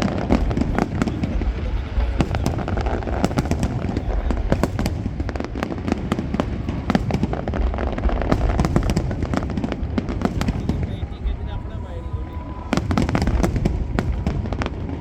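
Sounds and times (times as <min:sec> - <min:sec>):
fireworks crackling and popping: 0:00.0 - 0:15.0
low rumble of booming shells: 0:00.0 - 0:15.0.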